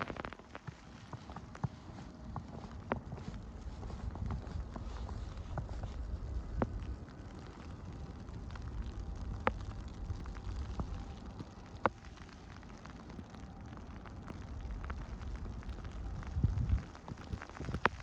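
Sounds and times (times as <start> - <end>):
patter of blowing snow: 0.0 - 18.0
wind rumbling on microphone: 0.0 - 18.0.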